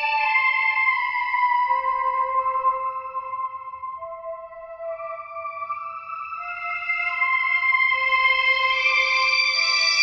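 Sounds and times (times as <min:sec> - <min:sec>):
slow sustained background music: 0:00.0 - 0:10.0.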